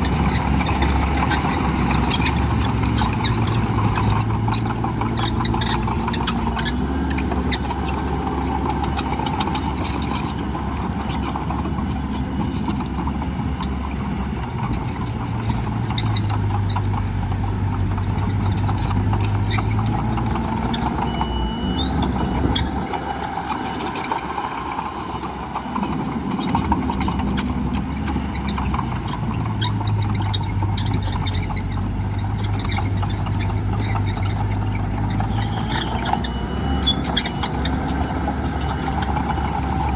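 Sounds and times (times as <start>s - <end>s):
diesel earthmoving machine engine: 0.0s - 39.9s.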